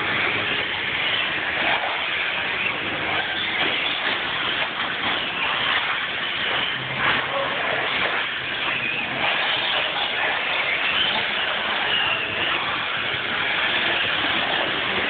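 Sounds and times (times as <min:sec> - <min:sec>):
cars moving on clay track: 0:00.0 - 0:15.0.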